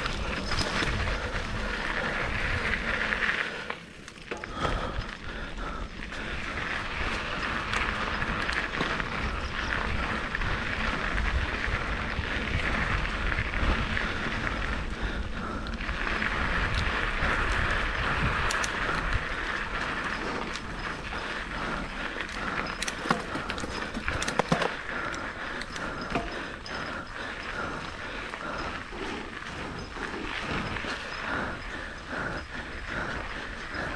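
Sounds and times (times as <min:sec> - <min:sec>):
bike clicks and rattles: 0:00.0 - 0:33.9
bike tyres rolling on dirt: 0:00.0 - 0:33.9.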